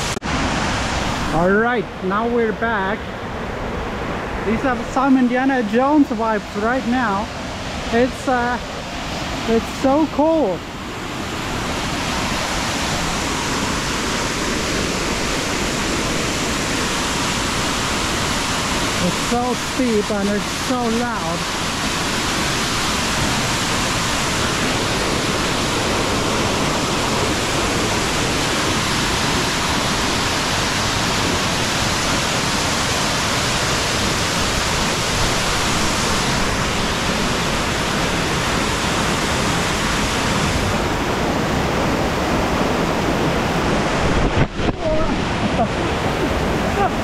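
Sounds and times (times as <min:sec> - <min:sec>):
loud waterfall rushing: 0:00.0 - 0:47.0.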